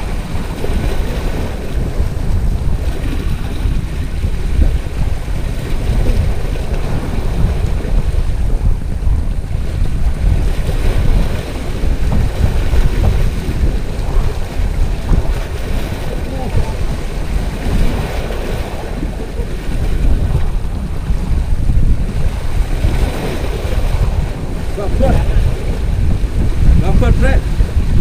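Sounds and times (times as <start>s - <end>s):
waves splashing against rocks: 0.0s - 28.0s
wind buffeting microphone: 0.0s - 28.0s.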